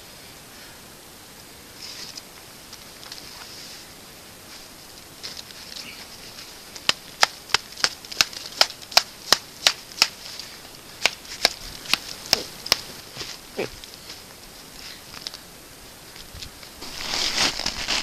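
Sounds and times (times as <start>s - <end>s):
footsteps crunching in snow: 1.8s - 15.4s, 16.1s - 18.0s.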